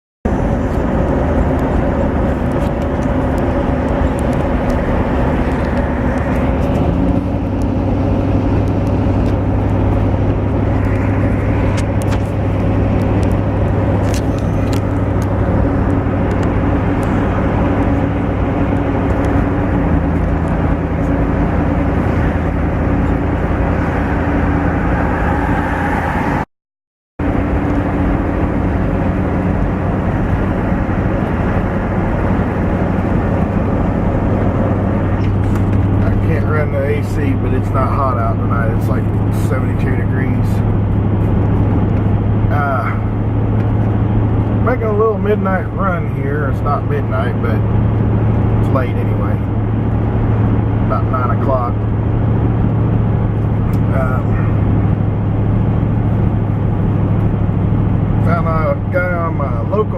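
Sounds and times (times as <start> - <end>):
car engine: 0.2 - 26.5, 27.2 - 59.9
road noise: 0.2 - 26.5, 27.2 - 59.9.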